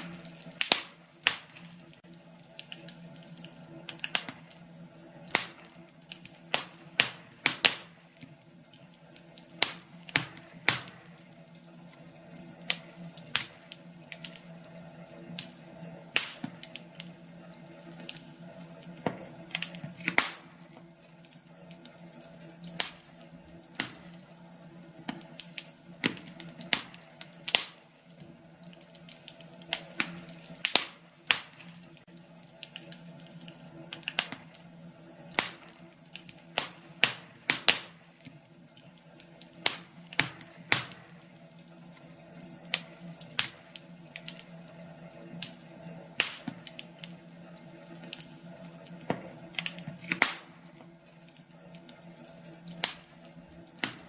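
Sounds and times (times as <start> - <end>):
logs crackling and popping: 0.0 - 54.0
low fire hiss: 0.0 - 54.0.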